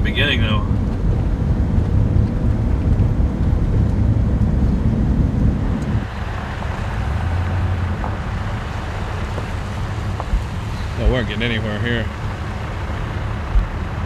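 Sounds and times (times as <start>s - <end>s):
vehicle rumble: 0.0s - 14.0s
wind noise: 0.0s - 14.0s.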